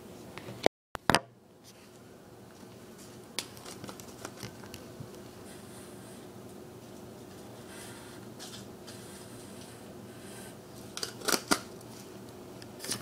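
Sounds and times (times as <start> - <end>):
aquarium air pump humming: 0.0 - 13.0.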